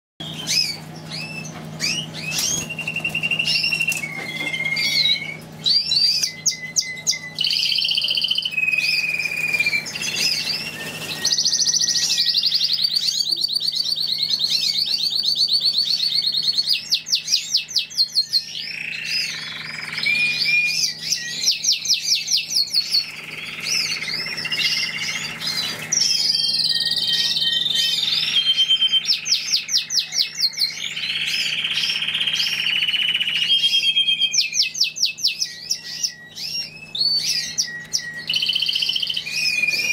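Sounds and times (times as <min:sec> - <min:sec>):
finches singing: 0:00.2 - 0:39.9.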